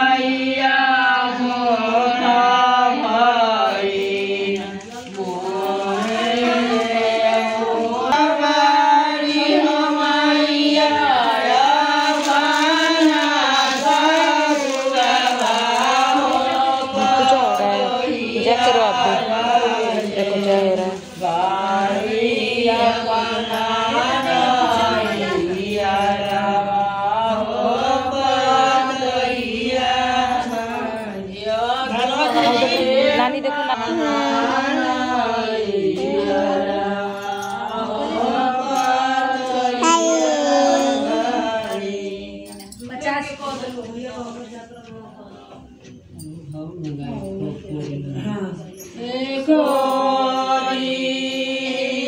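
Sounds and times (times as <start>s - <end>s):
women singing devotional song: 0.0s - 52.0s.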